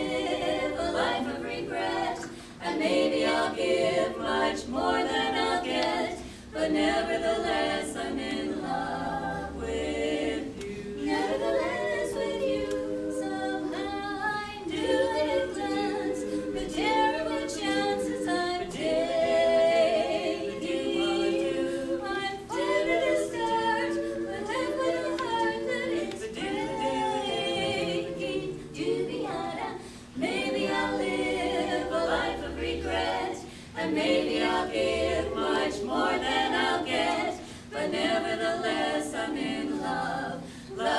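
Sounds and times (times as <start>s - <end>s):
women singing a cappella harmony: 0.0s - 40.9s.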